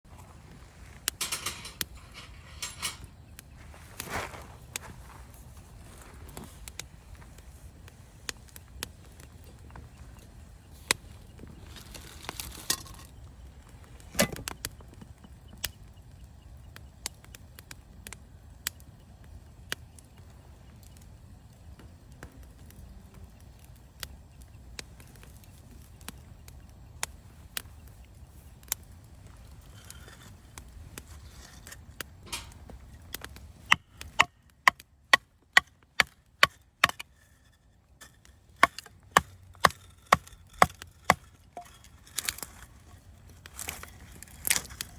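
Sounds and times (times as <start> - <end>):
campfire crackling: 0.1 - 44.9.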